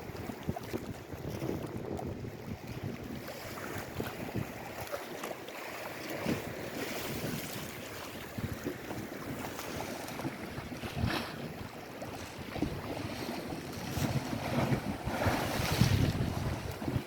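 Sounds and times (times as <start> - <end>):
wind buffeting microphone: 0.0 - 4.9, 6.1 - 17.0
waves washing ashore: 0.0 - 17.0.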